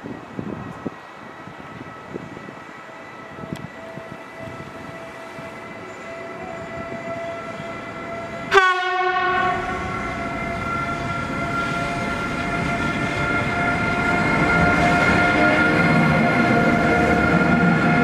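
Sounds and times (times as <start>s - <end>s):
electric train whine and rolling: 0.0s - 18.0s
train horn blast: 3.2s - 18.0s.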